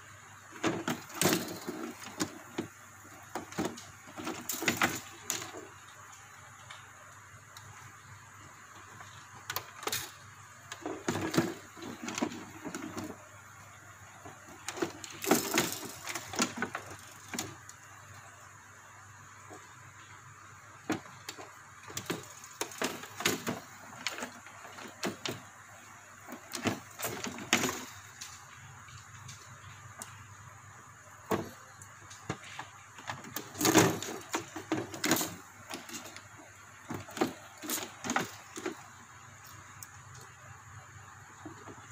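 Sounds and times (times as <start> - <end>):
wires rustling: 0.0 - 41.9.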